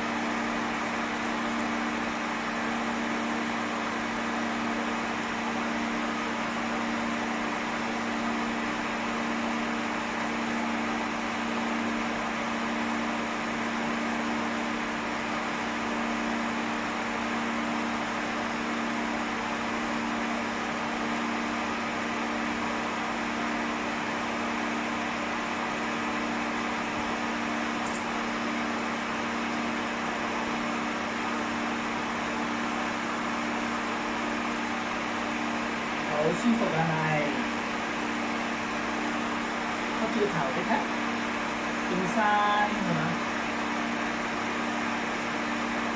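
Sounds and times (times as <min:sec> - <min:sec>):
hair dryer blowing: 0:00.0 - 0:45.9.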